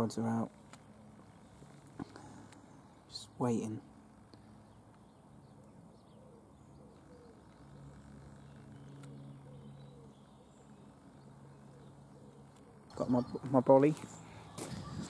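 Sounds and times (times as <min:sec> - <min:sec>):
distant birds calling: 0:00.0 - 0:15.0.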